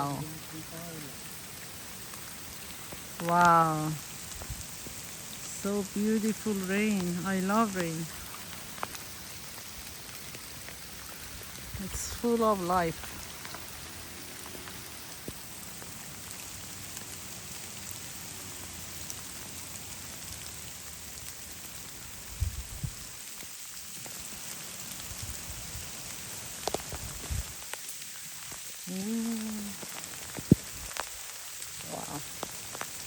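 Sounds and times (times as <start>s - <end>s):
steady rain on surfaces: 0.0s - 33.0s.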